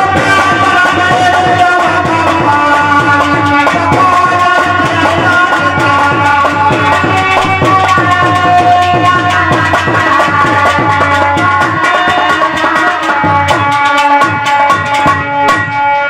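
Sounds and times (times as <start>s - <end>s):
fast hand drum rhythm: 0.0s - 15.8s.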